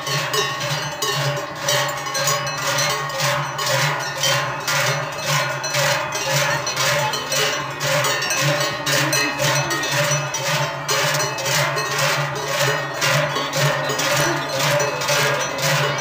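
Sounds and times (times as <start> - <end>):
large cowbells clanging: 0.0 - 16.0.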